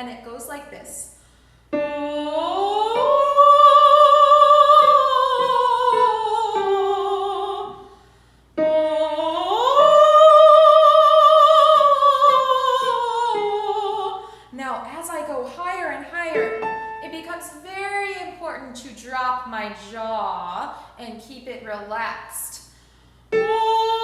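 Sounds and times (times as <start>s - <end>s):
woman singing vocal warm-up: 1.8s - 8.0s, 8.6s - 22.7s, 23.3s - 24.0s.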